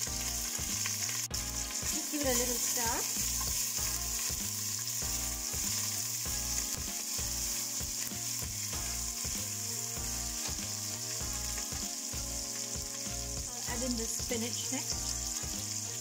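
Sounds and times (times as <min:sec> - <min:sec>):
oil sizzling in a pan: 0:00.0 - 0:16.0
small crackles: 0:00.0 - 0:16.0.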